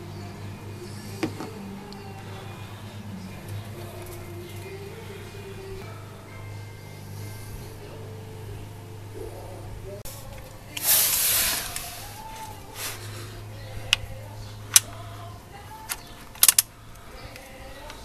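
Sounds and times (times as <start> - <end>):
faint music: 0.0 - 18.0.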